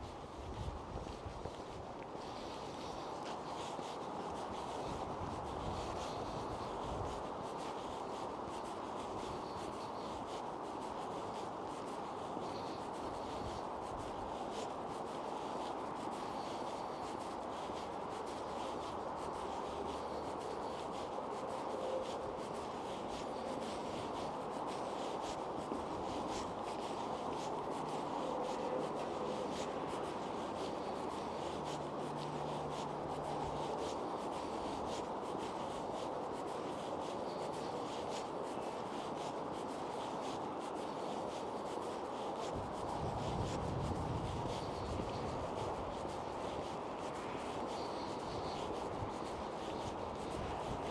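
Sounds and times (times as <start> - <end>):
faint scuffs and ticks: 0.0 - 50.9
footsteps on pavement: 0.0 - 50.9
outdoor background noise: 0.0 - 50.9.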